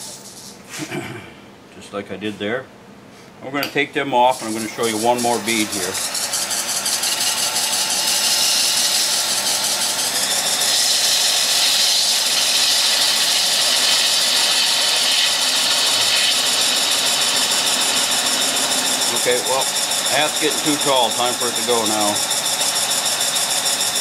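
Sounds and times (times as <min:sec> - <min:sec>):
gouge cutting wood on a lathe: 0:04.2 - 0:24.0.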